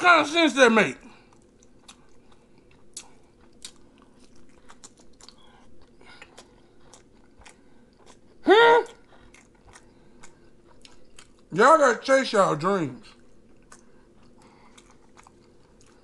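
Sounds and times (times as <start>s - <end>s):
chewing food: 1.0s - 11.6s, 13.0s - 16.0s.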